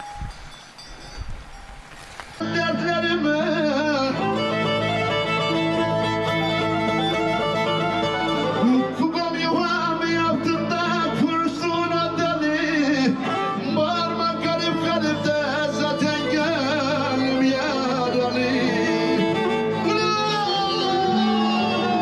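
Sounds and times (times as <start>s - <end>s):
bowed fiddle melody: 0.3s - 22.0s.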